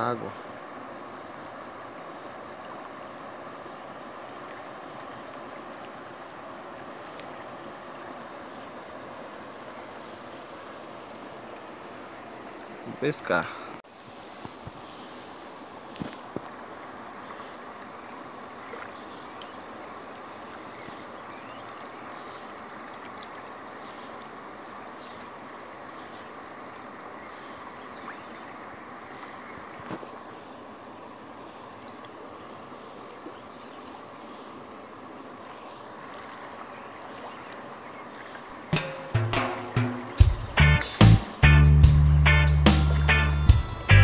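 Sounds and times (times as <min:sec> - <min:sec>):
flowing water rushing: 0:00.0 - 0:41.0
insects singing: 0:05.5 - 0:44.0.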